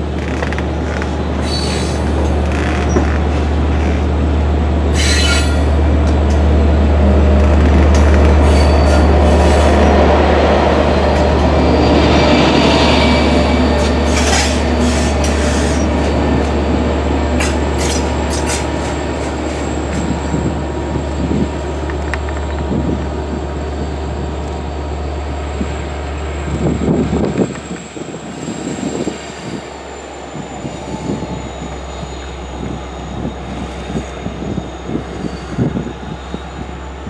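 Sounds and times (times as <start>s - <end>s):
diesel train rumbling: 0.0s - 37.0s
wheels squealing against rails: 0.2s - 4.1s, 4.9s - 5.9s, 7.3s - 10.1s, 10.7s - 25.8s, 26.4s - 37.0s.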